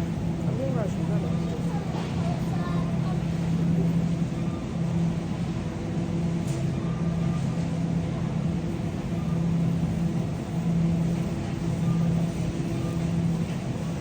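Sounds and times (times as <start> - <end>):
shopping cart wheels rumbling: 0.0 - 14.0.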